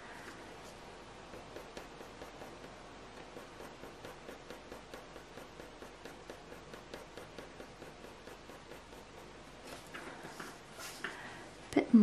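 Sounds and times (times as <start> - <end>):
pencil scratching on paper: 0.6 - 11.0.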